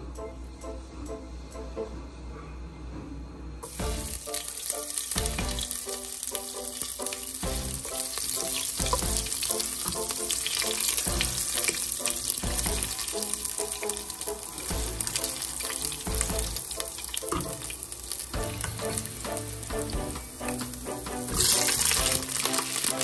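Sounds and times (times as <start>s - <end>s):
ginger sizzling in hot oil: 3.6s - 23.0s.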